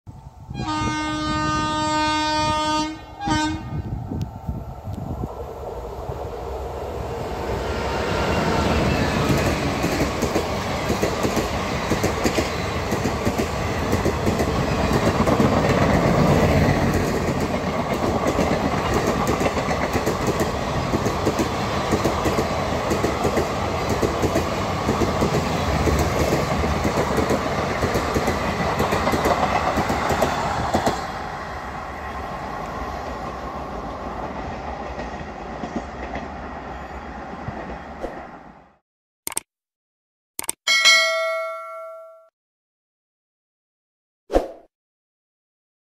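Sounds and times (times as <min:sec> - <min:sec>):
train rumbling: 0:00.1 - 0:38.8.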